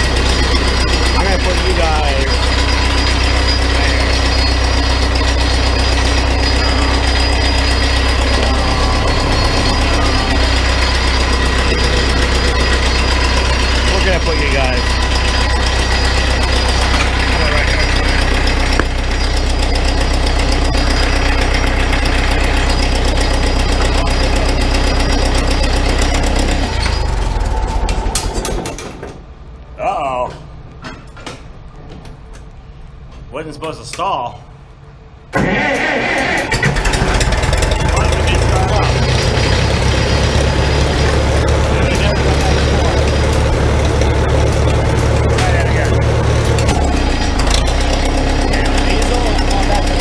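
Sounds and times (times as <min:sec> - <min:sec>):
tractor engine running: 0:00.0 - 0:29.6, 0:35.3 - 0:50.0.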